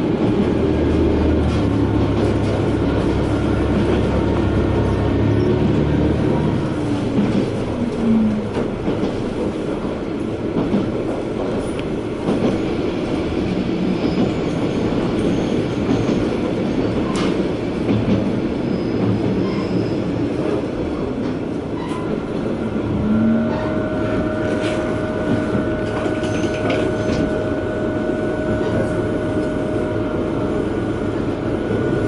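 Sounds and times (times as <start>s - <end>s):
railcar engine and wheels rumbling: 0.0s - 32.0s.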